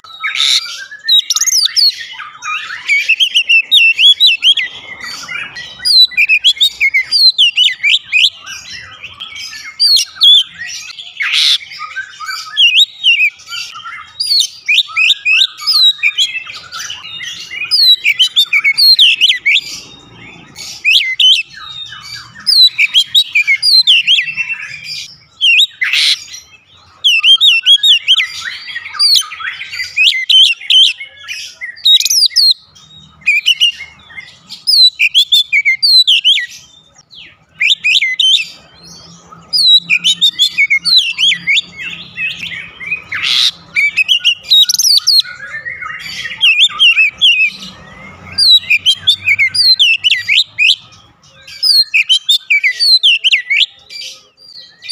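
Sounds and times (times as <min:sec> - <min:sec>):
bird singing chirps and whistles: 0:00.0 - 0:54.9.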